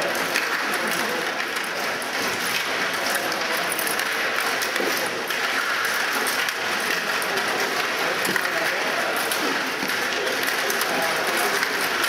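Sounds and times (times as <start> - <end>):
table hockey rods rattling: 0.0 - 12.0.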